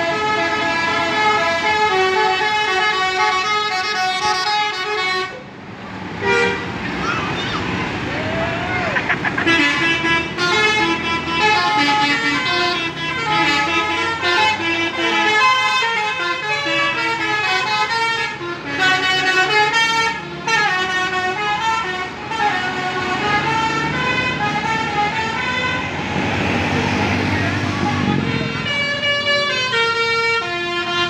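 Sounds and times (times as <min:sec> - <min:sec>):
multi-tone bus horn melody: 0:00.0 - 0:08.1, 0:09.0 - 0:31.0.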